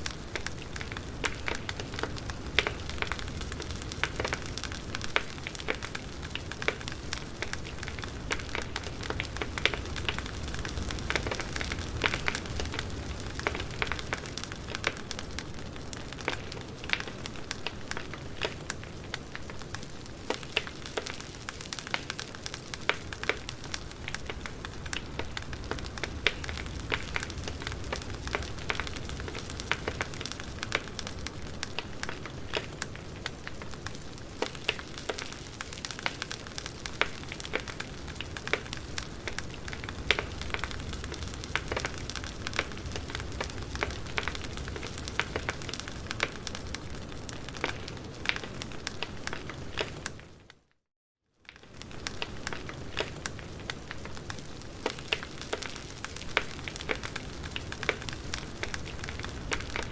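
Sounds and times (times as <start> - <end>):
campfire crackling and popping: 0.0 - 50.6, 51.4 - 59.9.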